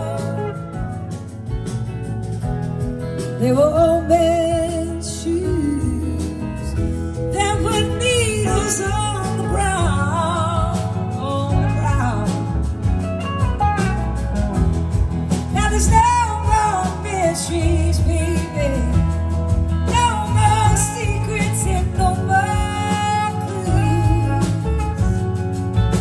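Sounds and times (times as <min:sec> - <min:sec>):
blues-rock band playing: 0:00.0 - 0:26.0
sliding lead guitar melody: 0:00.0 - 0:26.0.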